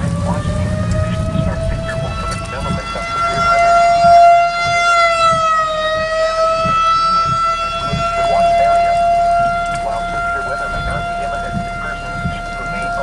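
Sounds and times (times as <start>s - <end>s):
tornado warning siren: 0.0s - 13.0s.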